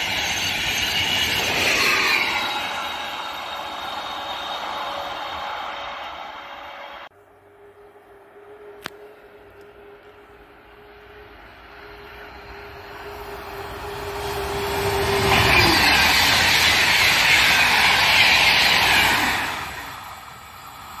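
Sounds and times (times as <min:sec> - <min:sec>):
high-speed train passing: 0:00.0 - 0:21.0.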